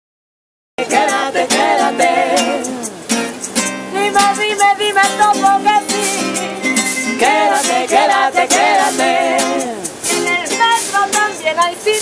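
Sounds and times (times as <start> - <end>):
acoustic guitar strumming: 0.8 - 12.0
shaker beat: 0.8 - 12.0
voices singing: 0.8 - 12.0.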